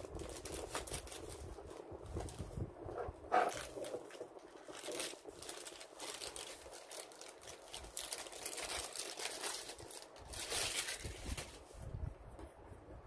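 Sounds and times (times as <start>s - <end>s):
plastic bags crinkling: 0.0s - 2.6s, 3.3s - 11.8s.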